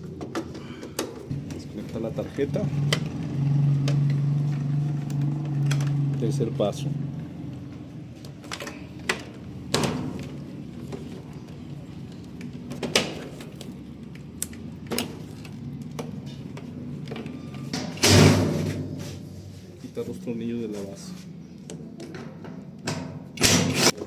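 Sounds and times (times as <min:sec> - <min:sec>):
knocks and clatter of metal and plastic: 0:00.0 - 0:06.8, 0:07.4 - 0:19.2, 0:21.6 - 0:24.0.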